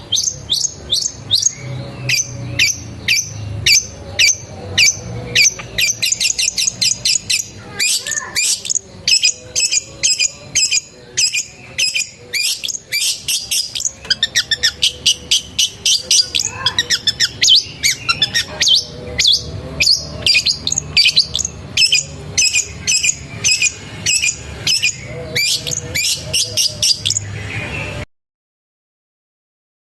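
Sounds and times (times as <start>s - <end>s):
bird singing chirps and trills: 0.0s - 28.0s.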